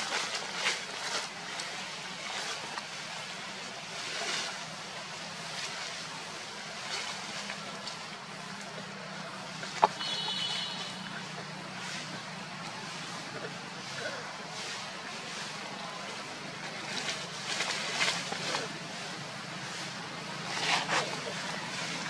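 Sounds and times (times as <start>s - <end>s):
rustle of dry leaves: 0.0s - 22.0s.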